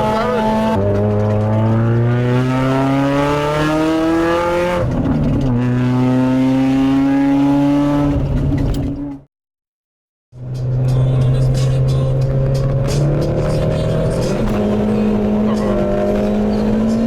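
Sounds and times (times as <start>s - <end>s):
car engine accelerating hard: 0.0s - 9.2s, 10.4s - 17.0s.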